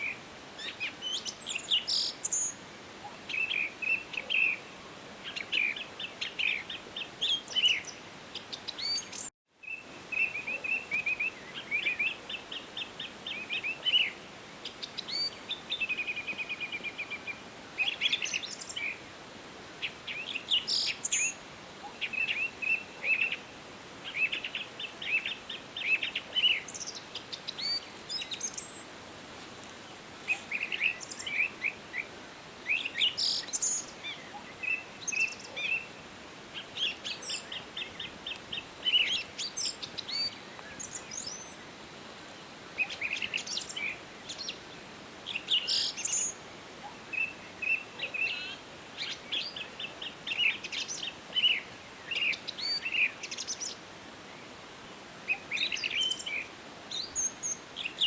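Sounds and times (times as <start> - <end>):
faint steady hiss: 0.0 - 58.0
songbirds chirping and trilling: 0.0 - 58.0.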